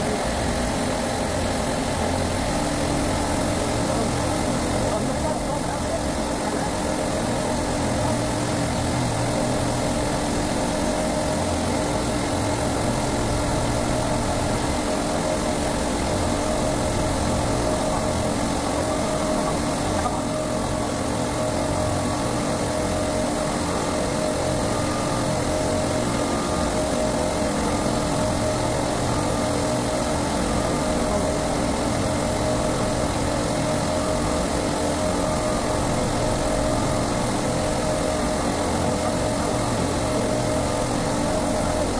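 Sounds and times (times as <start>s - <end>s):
refrigeration compressors humming: 0.0s - 41.9s.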